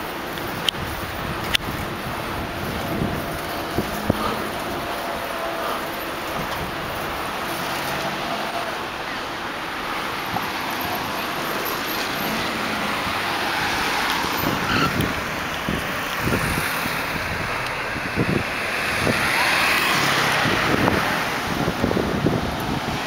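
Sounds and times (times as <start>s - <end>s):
city street traffic: 0.0s - 23.0s
wind buffeting microphone: 0.3s - 9.0s, 12.3s - 23.0s
car passing close: 1.6s - 23.0s.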